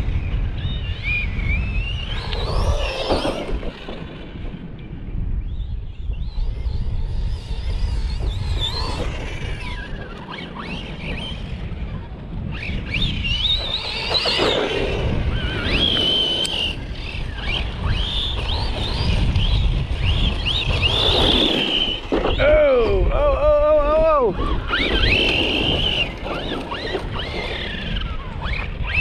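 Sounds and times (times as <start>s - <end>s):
rc truck motor whining: 0.0s - 22.5s, 24.4s - 29.0s
wind buffeting microphone: 0.0s - 29.0s.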